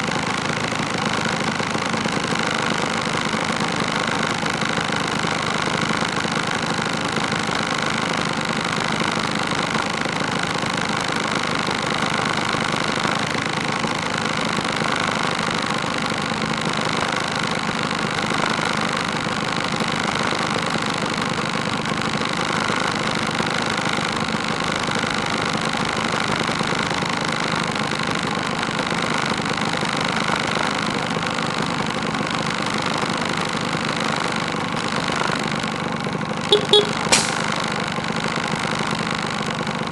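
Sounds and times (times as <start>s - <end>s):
scooter engines idling: 0.0s - 39.9s.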